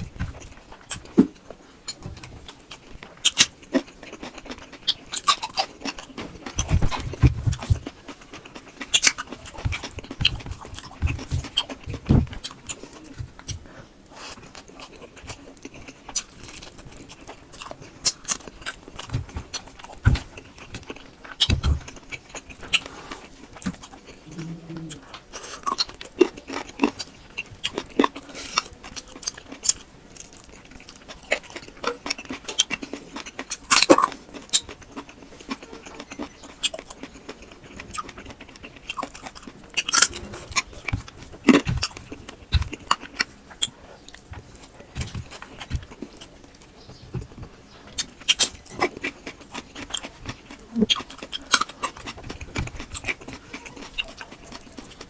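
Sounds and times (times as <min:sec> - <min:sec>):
person chewing with wet smacks: 0:00.0 - 0:55.0.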